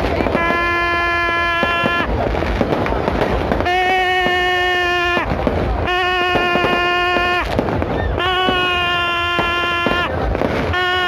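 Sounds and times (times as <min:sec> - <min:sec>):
long steady horn blasts: 0:00.0 - 0:02.7, 0:03.5 - 0:07.6, 0:08.2 - 0:11.0
fireworks popping and crackling: 0:00.0 - 0:11.0.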